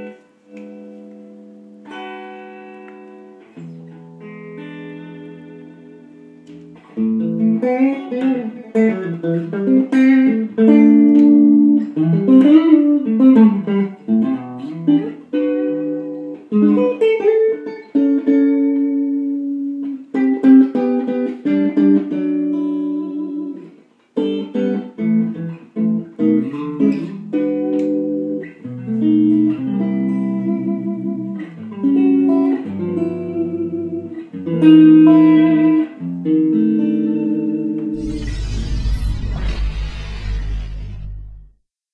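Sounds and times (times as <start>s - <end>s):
electric guitar playing: 0.0s - 41.6s.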